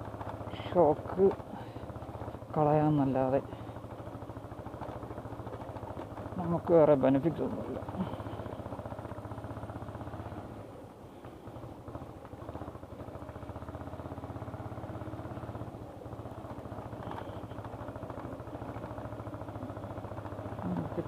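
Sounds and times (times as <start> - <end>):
motorcycle engine at low speed: 0.0 - 21.0.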